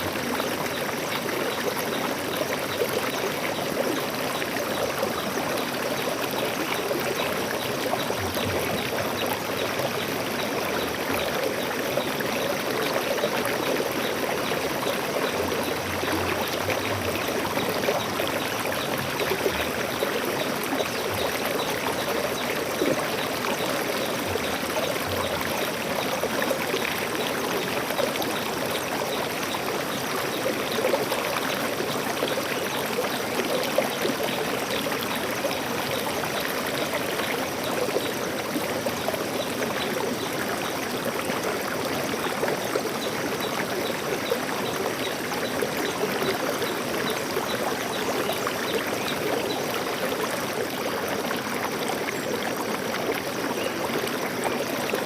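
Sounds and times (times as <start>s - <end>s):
stream water flowing over rocks: 0.0s - 55.0s.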